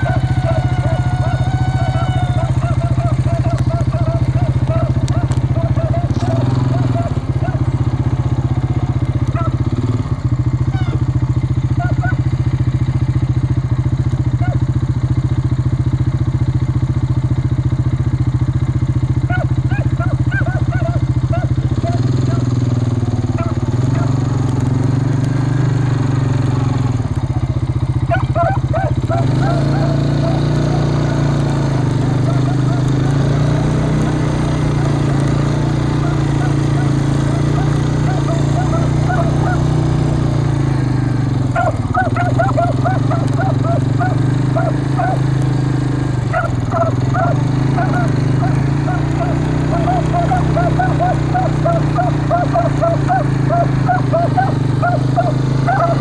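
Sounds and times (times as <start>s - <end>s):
beagles baying: 0.0s - 12.6s, 14.4s - 14.7s, 19.2s - 56.0s
engine idling: 0.0s - 56.0s.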